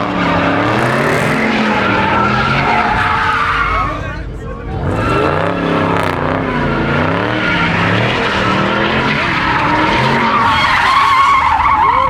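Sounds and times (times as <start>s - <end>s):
car engine revving: 0.0s - 12.0s
tires squealing on pavement: 0.0s - 12.0s.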